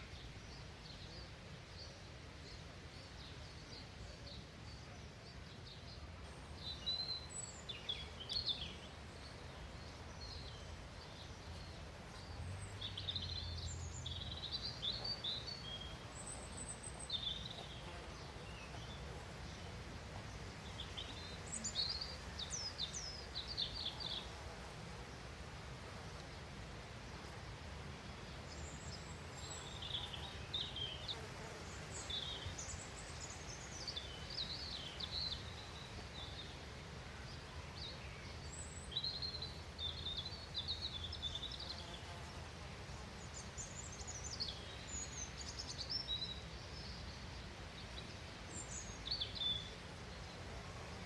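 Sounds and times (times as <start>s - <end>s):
small songbirds chirping: 0.0s - 51.0s.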